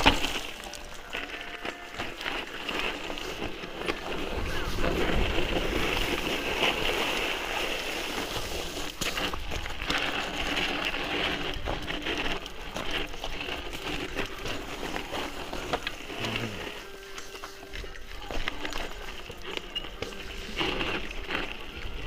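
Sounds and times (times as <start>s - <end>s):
bike rattling over bumps: 0.0s - 22.0s
bike tyres crunching on gravel: 0.0s - 22.0s.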